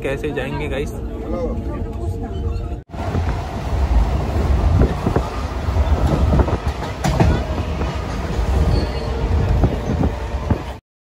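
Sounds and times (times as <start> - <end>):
train rumble inside carriage: 0.0 - 10.8.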